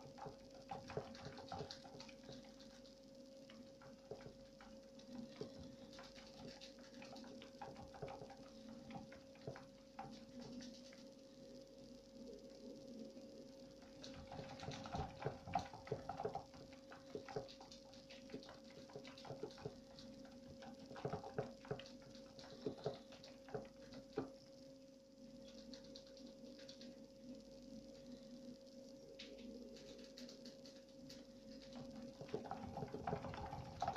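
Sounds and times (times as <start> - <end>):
rat running in plastic wheel: 0.0 - 28.1, 29.2 - 33.9
faint steady hum: 0.0 - 33.9.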